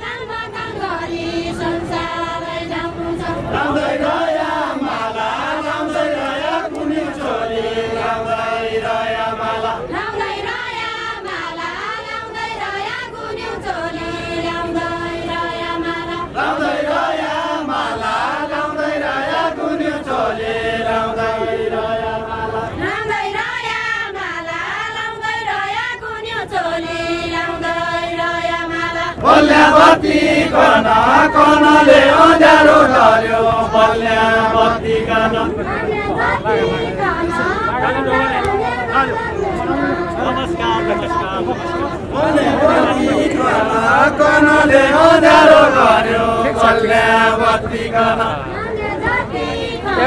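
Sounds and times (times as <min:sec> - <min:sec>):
group of voices singing: 0:00.0 - 0:50.0.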